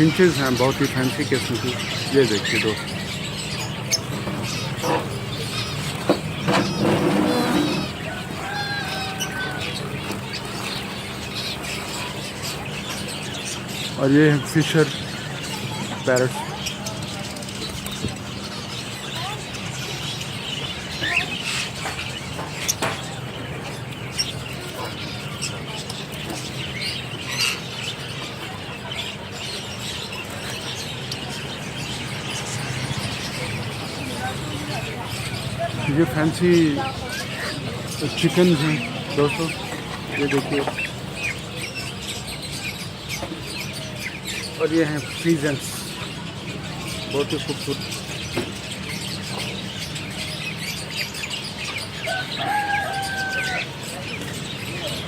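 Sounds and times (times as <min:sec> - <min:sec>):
caged birds chirping and squeaking: 0:00.0 - 0:55.0
low background hum: 0:00.0 - 0:55.0.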